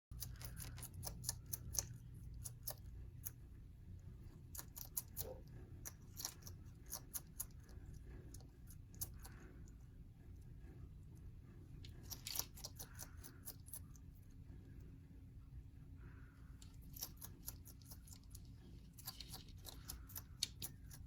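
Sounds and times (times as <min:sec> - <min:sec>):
lizard chewing crunchy food: 0:00.1 - 0:03.4, 0:04.2 - 0:14.3, 0:16.6 - 0:21.0.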